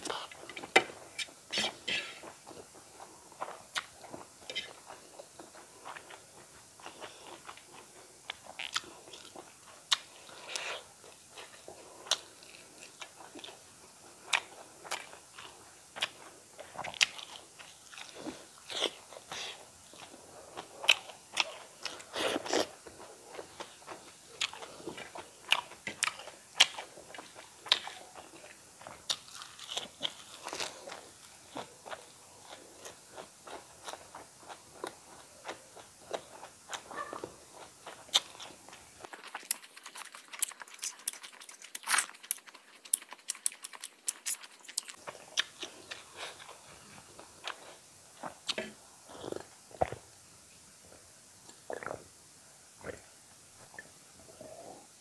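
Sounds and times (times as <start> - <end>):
chewing with crunches: 0.0 - 50.0.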